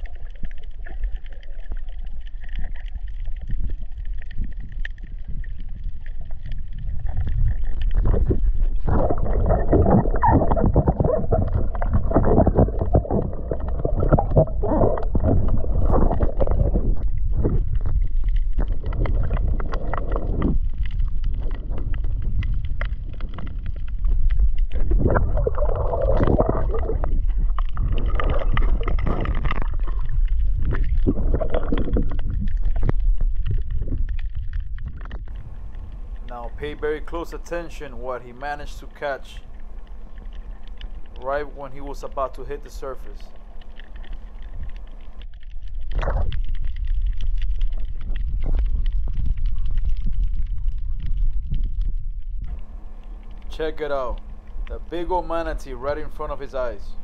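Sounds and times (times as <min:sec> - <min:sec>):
gurgling rushing water: 0:00.0 - 0:51.5
underwater rumble: 0:00.0 - 0:57.0.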